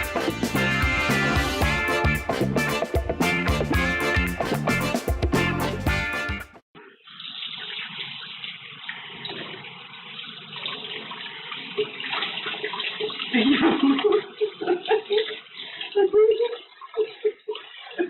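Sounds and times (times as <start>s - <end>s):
water running from tap: 0.0s - 6.1s, 7.0s - 18.0s.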